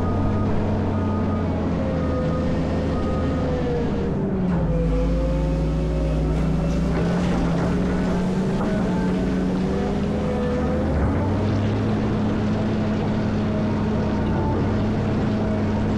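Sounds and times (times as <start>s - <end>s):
diesel engine running steadily: 0.0s - 15.9s.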